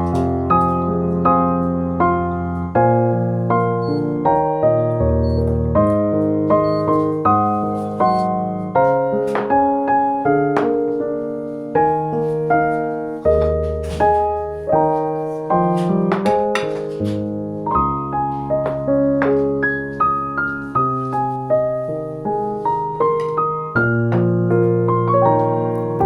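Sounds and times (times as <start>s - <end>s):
gentle piano piece: 0.0s - 26.0s.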